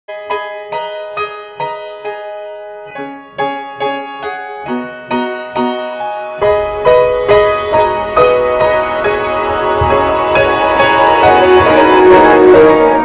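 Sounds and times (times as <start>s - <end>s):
piano pulsing notes: 0.1s - 13.0s.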